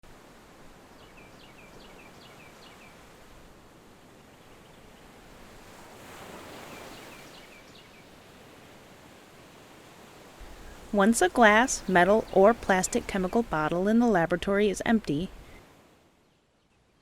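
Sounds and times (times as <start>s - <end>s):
steady background hiss: 0.1s - 16.4s.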